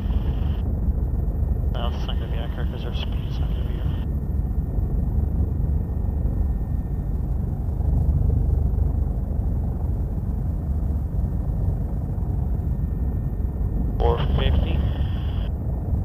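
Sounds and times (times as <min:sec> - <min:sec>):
faint steady whine: 0:00.0 - 0:16.0
helicopter rotor and engine rumble: 0:00.0 - 0:16.0.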